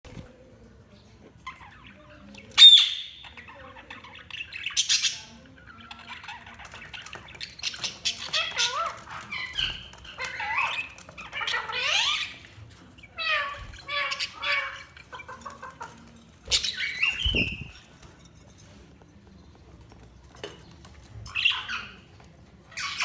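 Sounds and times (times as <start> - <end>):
budgerigars chirping and warbling: 1.0 - 18.3, 19.5 - 23.0.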